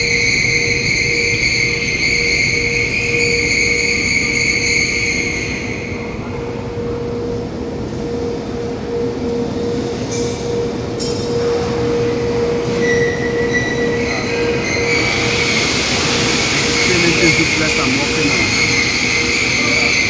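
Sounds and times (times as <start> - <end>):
high machine whine: 0.0 - 20.0
workshop machinery hum and rumble: 0.0 - 20.0.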